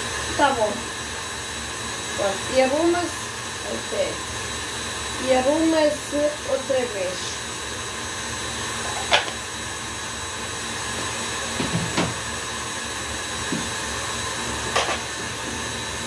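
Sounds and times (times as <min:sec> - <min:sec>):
stand mixer whining: 0:00.0 - 0:16.0.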